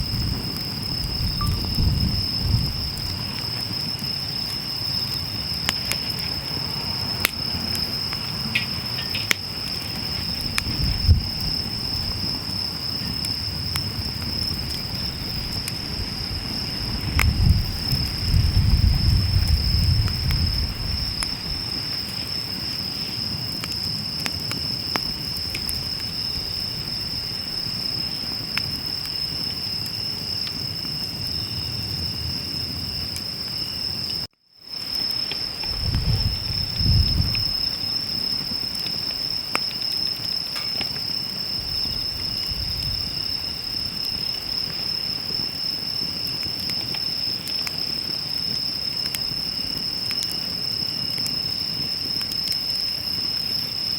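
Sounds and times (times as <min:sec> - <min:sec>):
campfire crackling and popping: 0:00.0 - 0:53.9
crickets chirring: 0:00.0 - 0:53.9.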